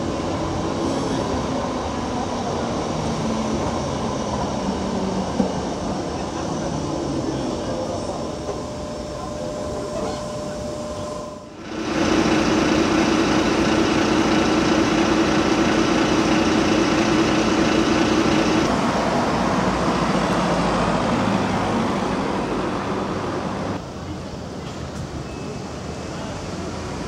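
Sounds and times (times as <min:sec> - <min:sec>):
bus engine drone: 0:00.0 - 0:27.0
street traffic: 0:00.0 - 0:27.0.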